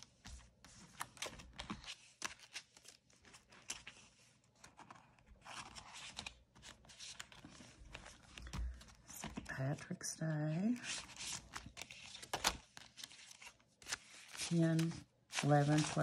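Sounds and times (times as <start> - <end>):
banknotes rustling: 0.0 - 16.0.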